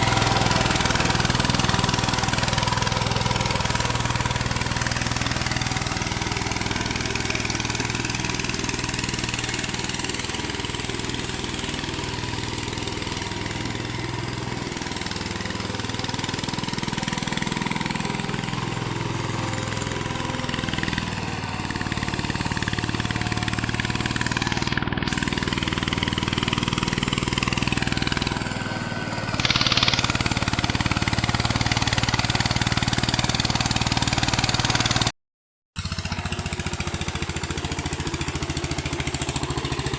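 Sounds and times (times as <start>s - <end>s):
tiller engine running: 0.0s - 35.1s, 35.8s - 39.9s.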